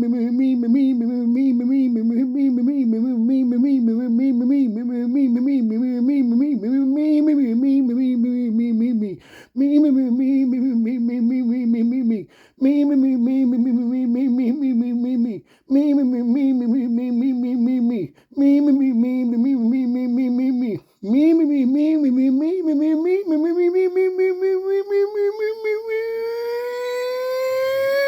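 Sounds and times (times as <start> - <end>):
person humming on one pitch: 0.0 - 28.0.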